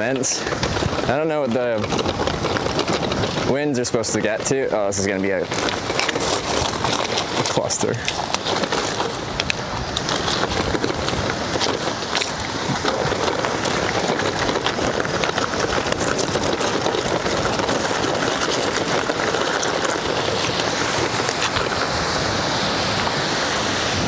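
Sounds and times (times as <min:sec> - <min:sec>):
bike crunching over gravel: 0:00.0 - 0:24.0
wind: 0:00.0 - 0:24.0.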